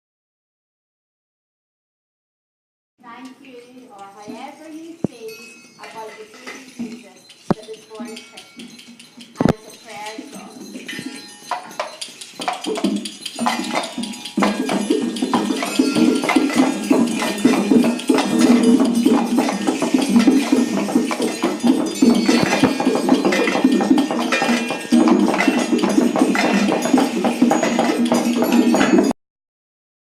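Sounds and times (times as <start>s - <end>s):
hand percussion clatter: 3.1s - 29.2s.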